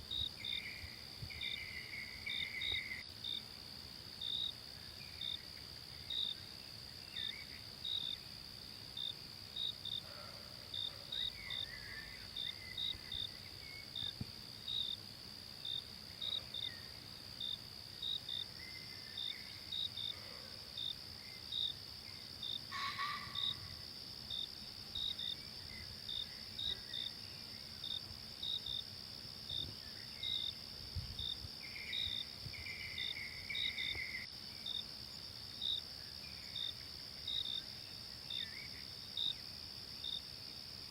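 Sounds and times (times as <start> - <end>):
crickets chirping: 0.0 - 40.9
insects droning: 0.0 - 40.9.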